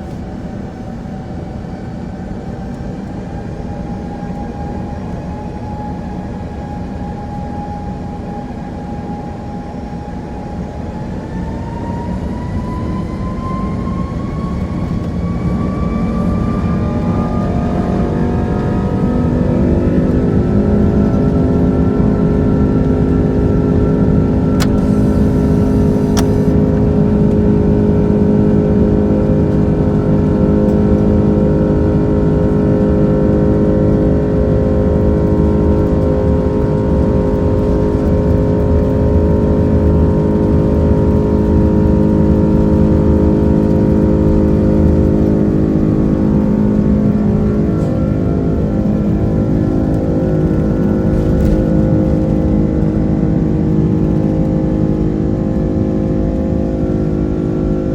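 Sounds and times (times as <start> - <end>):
jet engines droning: 0.0 - 57.9.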